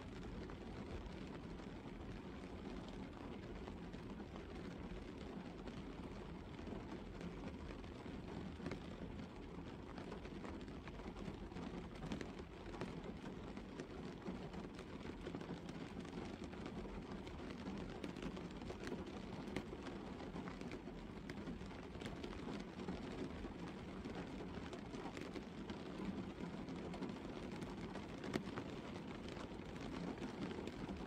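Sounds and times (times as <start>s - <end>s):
rain falling on car roof: 0.0s - 31.0s
sharp ticks of raindrops: 0.0s - 31.0s.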